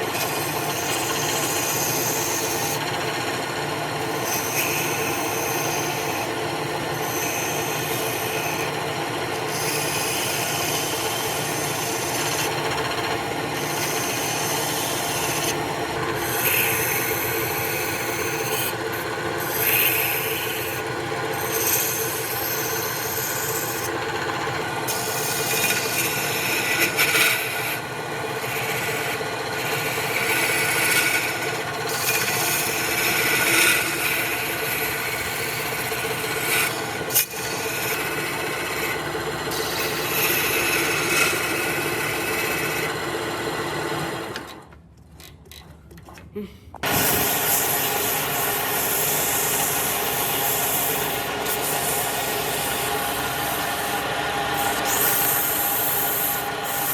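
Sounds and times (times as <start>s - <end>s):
tool rasping on spinning wood: 0.0s - 44.3s, 46.8s - 56.9s
lathe motor hum: 0.0s - 44.7s, 46.8s - 56.9s.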